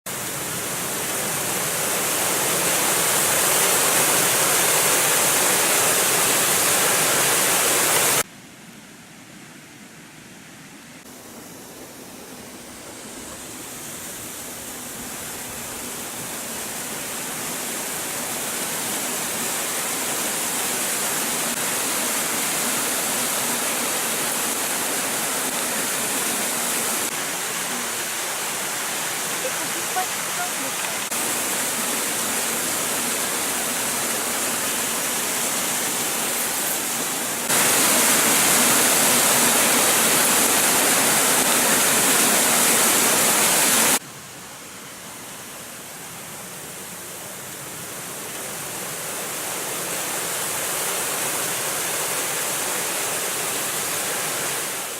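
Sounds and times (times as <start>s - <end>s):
waterfall rushing: 0.1s - 8.3s, 11.0s - 54.9s.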